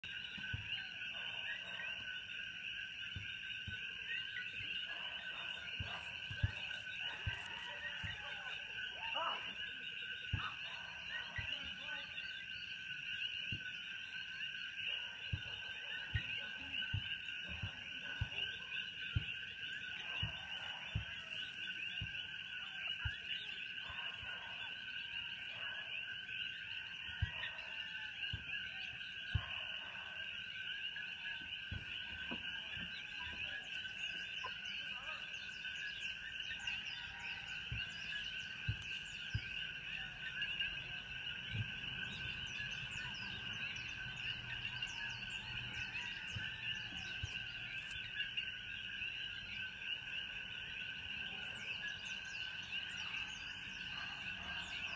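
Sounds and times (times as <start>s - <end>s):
frogs calling in chorus: 0.0s - 54.9s.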